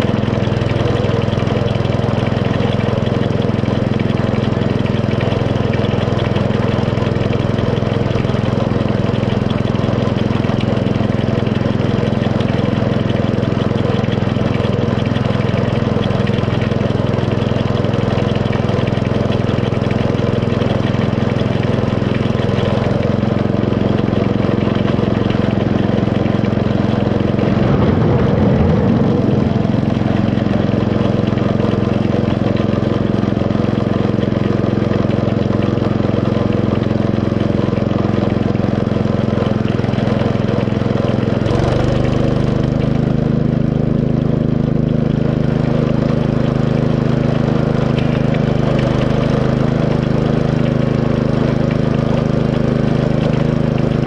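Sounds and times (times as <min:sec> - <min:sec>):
small locomotive engine running: 0:00.0 - 0:54.0.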